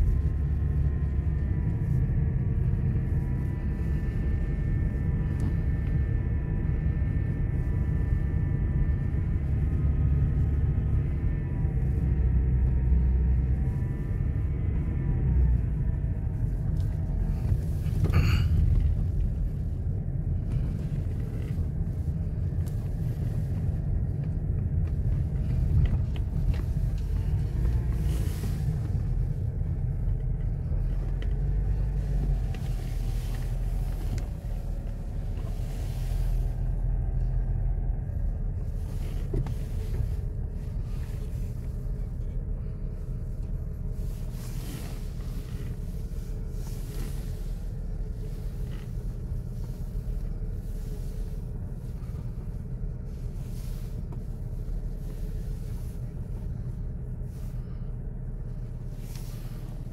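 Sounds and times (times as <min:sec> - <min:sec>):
car engine rumble: 0:00.0 - 0:59.9
tyres on the road: 0:00.0 - 0:59.9.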